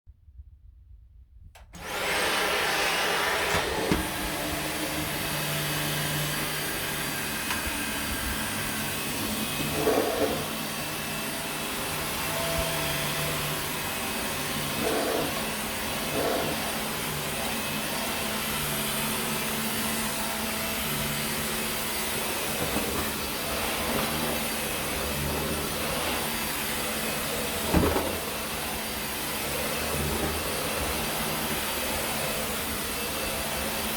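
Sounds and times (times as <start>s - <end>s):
vacuum cleaner motor running: 1.6s - 33.9s.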